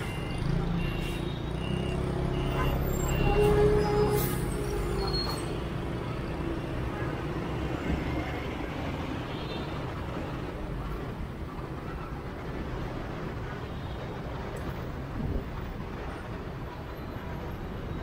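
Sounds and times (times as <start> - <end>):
road noise: 0.0 - 18.0
street traffic: 0.0 - 18.0.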